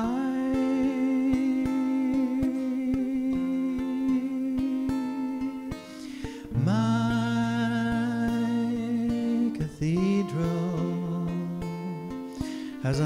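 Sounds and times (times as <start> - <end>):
acoustic guitar picking: 0.0 - 13.0
long held notes: 0.0 - 13.0.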